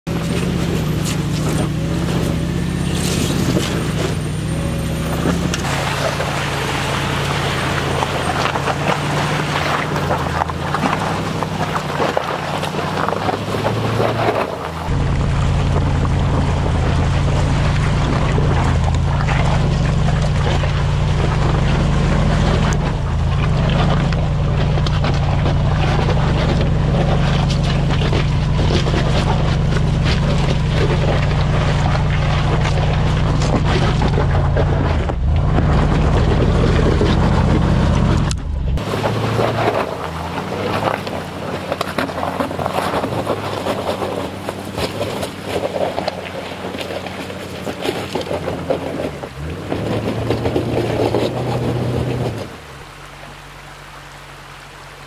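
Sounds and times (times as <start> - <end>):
car engine running under load: 0.0 - 55.0
tyres crunching over gravel: 0.1 - 53.0.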